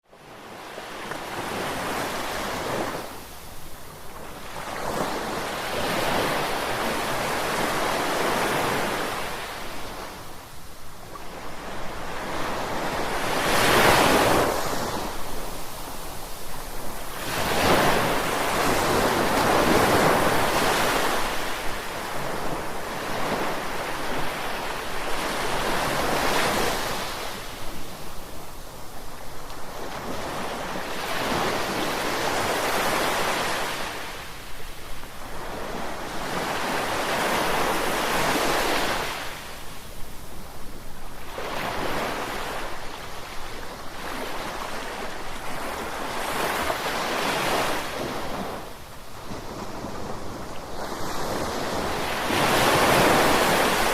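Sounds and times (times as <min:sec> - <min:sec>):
ocean waves breaking on shore: 0:00.1 - 0:53.9.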